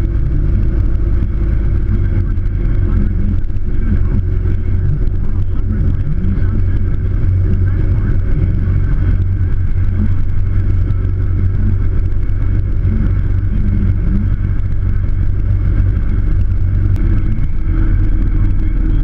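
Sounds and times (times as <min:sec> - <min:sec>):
road and wind noise: 0:00.0 - 0:19.0
vehicle engine drone: 0:00.0 - 0:19.0.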